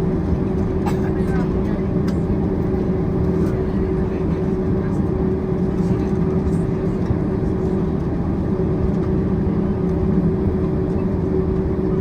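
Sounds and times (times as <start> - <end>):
low cabin rumble: 0.0 - 12.0.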